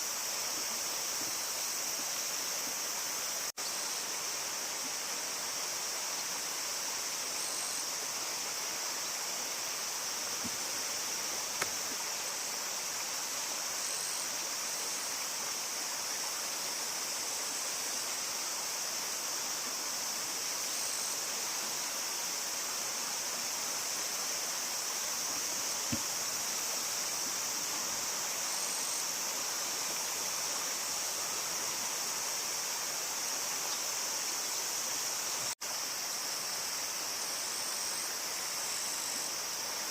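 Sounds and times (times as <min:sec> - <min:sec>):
high-pitched hiss: 0:00.0 - 0:39.9.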